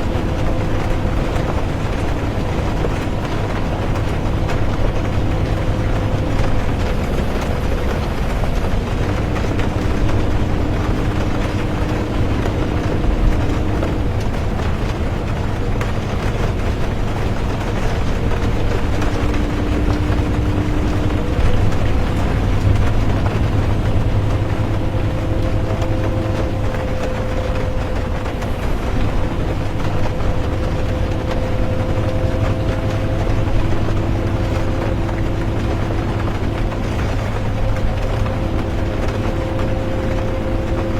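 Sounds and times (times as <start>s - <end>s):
bus engine and road rumble: 0.0s - 40.9s
faint humming tones: 0.0s - 40.9s
rain hiss: 0.0s - 40.9s.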